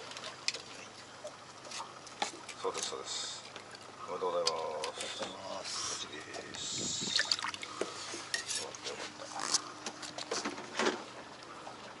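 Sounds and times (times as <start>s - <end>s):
water sloshing in a bucket: 0.0s - 12.0s.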